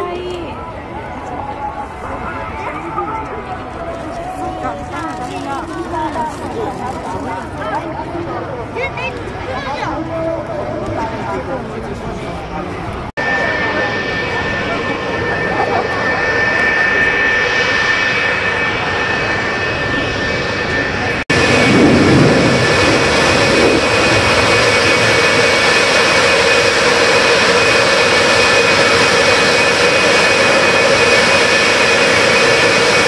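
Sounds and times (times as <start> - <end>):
jet engines whining and roaring: 0.0 - 33.0.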